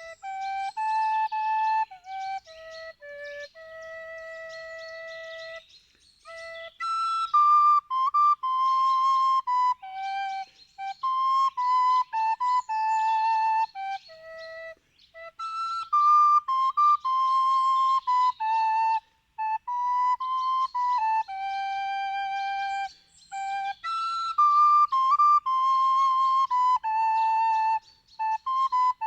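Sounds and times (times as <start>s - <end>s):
flute playing slow melody: 0.0s - 29.0s.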